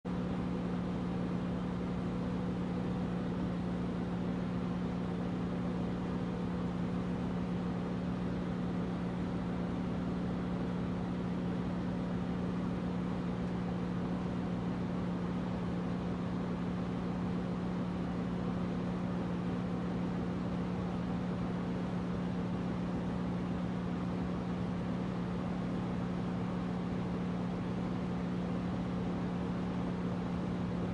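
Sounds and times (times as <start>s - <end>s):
air conditioner humming: 0.0s - 30.9s.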